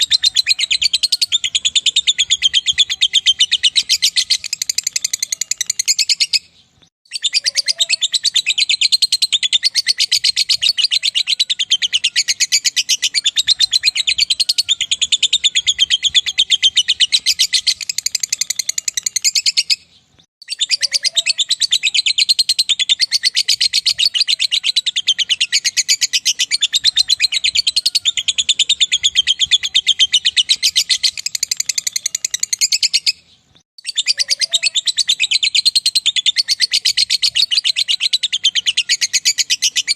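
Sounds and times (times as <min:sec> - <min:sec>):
lovebird shrill chattering trill: 0:00.0 - 0:39.9.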